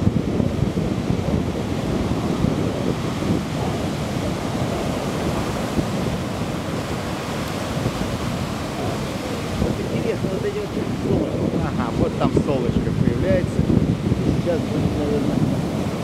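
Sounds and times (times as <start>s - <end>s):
waves breaking on pebble beach: 0.0s - 16.0s
wind buffeting microphone: 0.0s - 16.0s.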